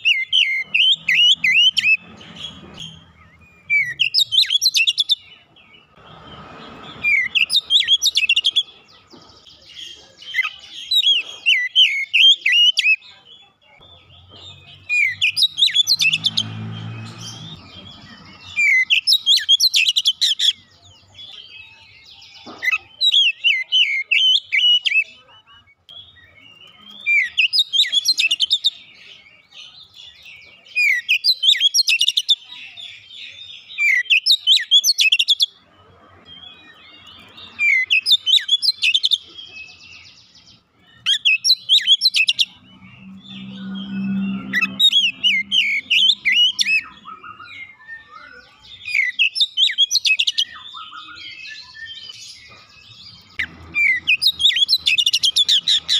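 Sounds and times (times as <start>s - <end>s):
magpie-robin whistled song: 0.0s - 35.6s, 36.2s - 55.9s.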